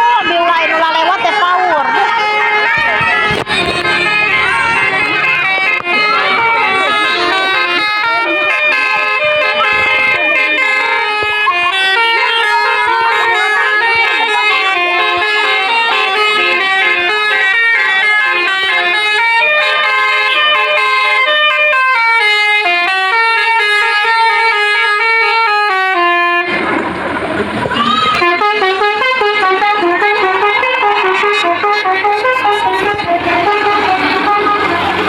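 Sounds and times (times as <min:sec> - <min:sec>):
bus horn playing melody: 0:00.0 - 0:26.7, 0:27.8 - 0:35.0
bus engine rumble: 0:00.0 - 0:35.0
road noise: 0:00.0 - 0:35.0.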